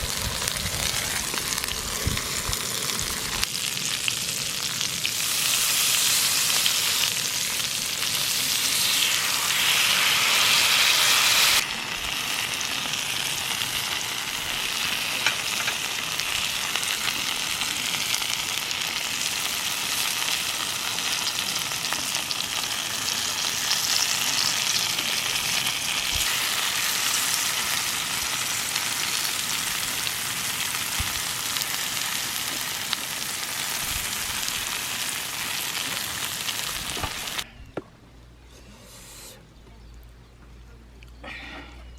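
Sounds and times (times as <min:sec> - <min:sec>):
meat sizzling in a pan: 0:00.0 - 0:37.4.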